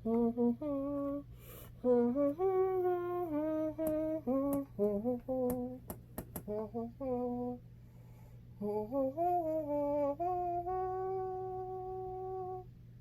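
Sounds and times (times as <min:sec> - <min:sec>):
woman humming a tune: 0:00.0 - 0:07.6, 0:08.6 - 0:12.8.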